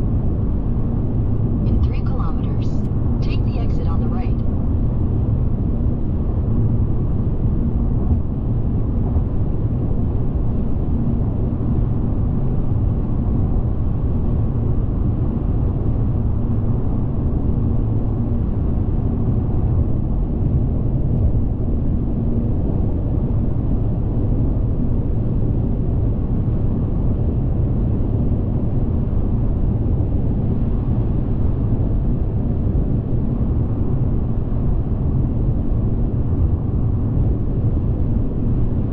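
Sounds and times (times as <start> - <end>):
car road and engine rumble: 0.0 - 38.9
faint steady hum: 0.0 - 38.9.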